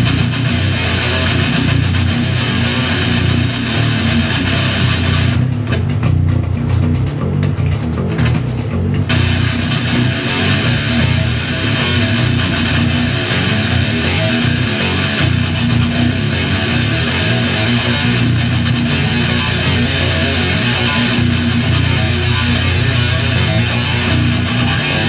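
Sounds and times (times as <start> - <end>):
bass guitar: 0.0 - 25.0
electric guitar heavy metal riff: 0.0 - 25.0.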